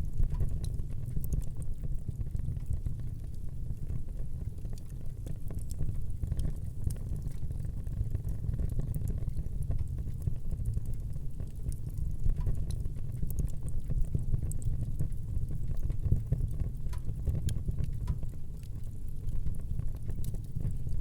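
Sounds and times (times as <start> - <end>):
wood fire burning: 0.0 - 21.0.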